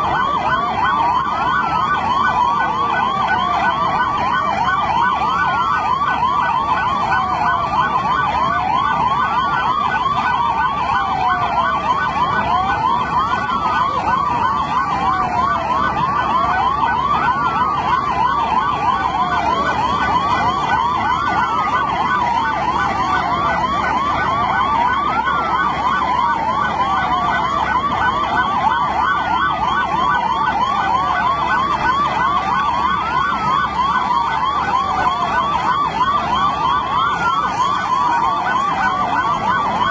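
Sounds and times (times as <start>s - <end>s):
wailing siren: 0.0s - 39.9s
yelping siren warble: 0.0s - 39.9s.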